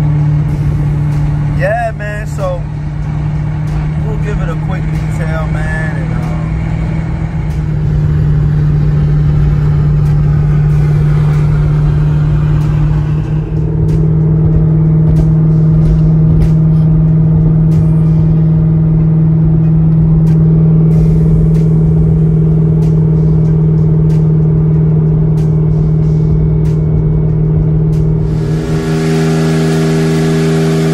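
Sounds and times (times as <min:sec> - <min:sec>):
car engine running from inside cabin: 0:00.0 - 0:30.9.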